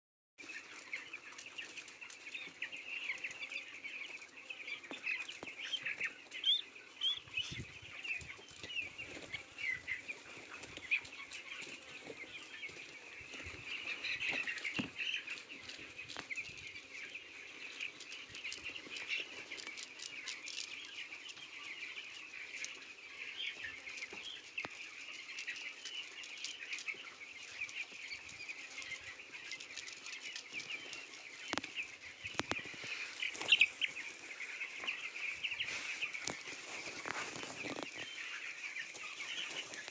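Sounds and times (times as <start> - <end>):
chickens calling: 0.4 - 39.9.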